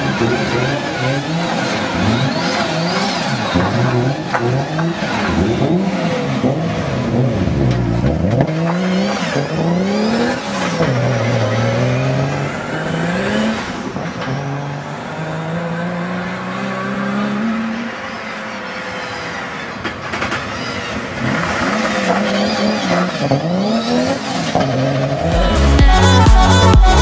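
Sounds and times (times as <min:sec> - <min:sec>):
car engine revving hard: 0:00.0 - 0:19.5, 0:21.1 - 0:27.0.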